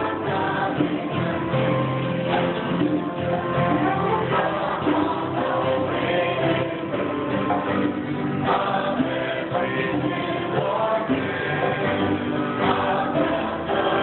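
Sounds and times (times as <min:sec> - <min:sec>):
acoustic guitar: 0:00.0 - 0:14.0
congregation singing a hymn: 0:00.0 - 0:14.0
piano: 0:00.0 - 0:14.0.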